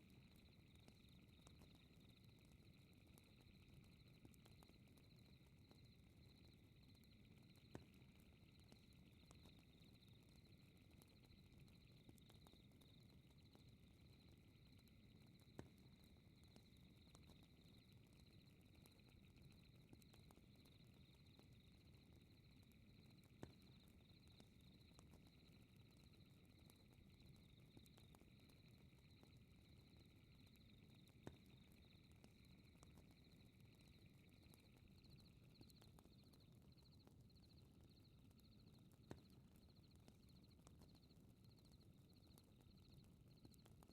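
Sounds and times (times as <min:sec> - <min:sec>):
fire crackling pops: 0:00.0 - 0:43.9
night insects chirping: 0:00.0 - 0:43.9.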